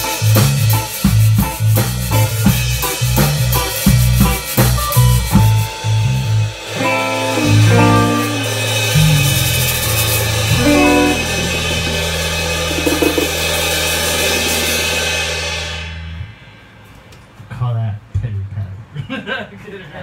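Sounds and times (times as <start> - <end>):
electric guitar: 0.0 - 16.3
electric bass: 0.0 - 16.4
cymbals: 0.0 - 17.4
drums: 0.0 - 19.7.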